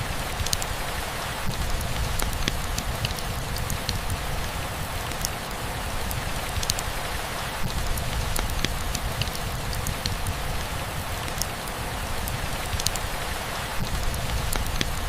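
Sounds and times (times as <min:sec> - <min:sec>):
steady rainfall hiss: 0:00.0 - 0:15.0
raindrops ticking: 0:00.1 - 0:15.0.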